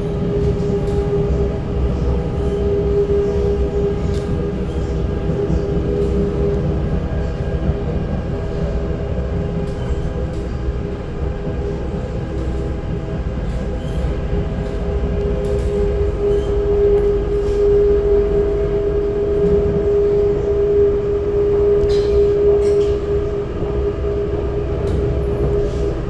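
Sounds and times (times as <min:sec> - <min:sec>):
metro train rumble: 0:00.0 - 0:26.0
train whine: 0:00.0 - 0:26.0.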